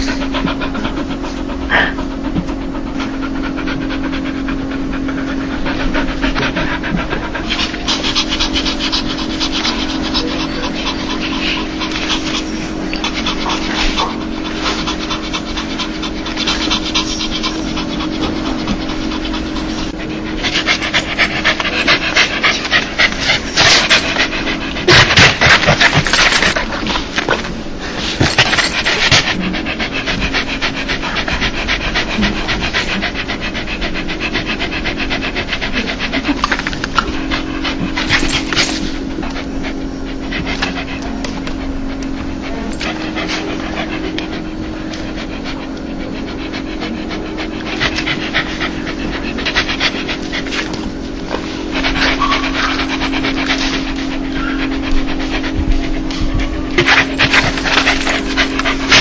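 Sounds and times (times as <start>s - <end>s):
dog panting: 0.0s - 59.0s
low hum: 0.0s - 59.0s.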